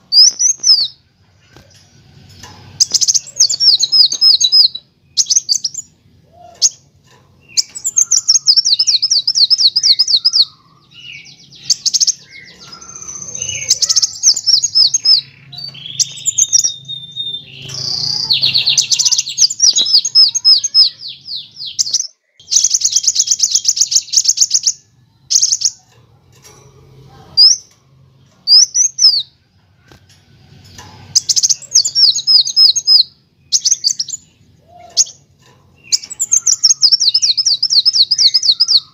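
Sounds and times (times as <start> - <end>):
bird singing high trills: 0.0 - 1.0, 2.3 - 25.8, 28.4 - 29.4, 31.1 - 38.9.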